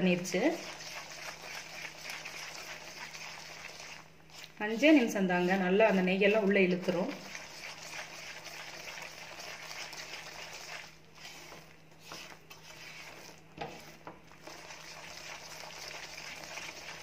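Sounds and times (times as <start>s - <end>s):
mixture sizzling in a pan: 0.0s - 17.0s.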